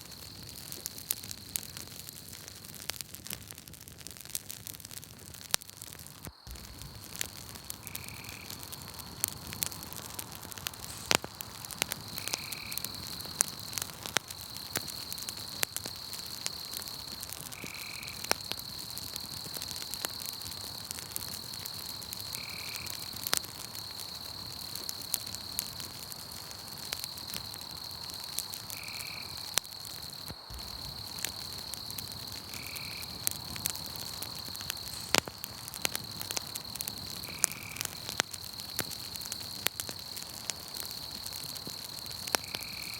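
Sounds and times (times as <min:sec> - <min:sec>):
campfire crackling and popping: 0:00.0 - 0:42.9
high insect trill: 0:05.9 - 0:42.9.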